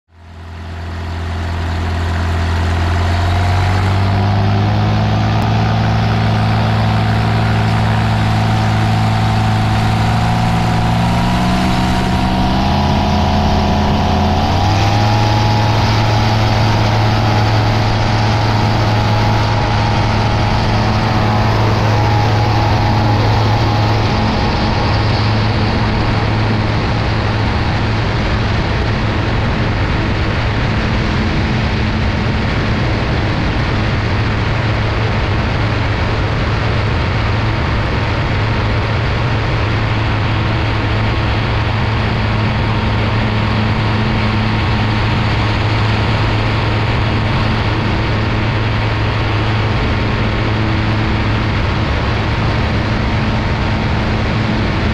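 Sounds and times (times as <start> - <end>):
aircraft engine and propeller: 0.1 - 54.9
wind rushing over microphone: 2.6 - 54.9.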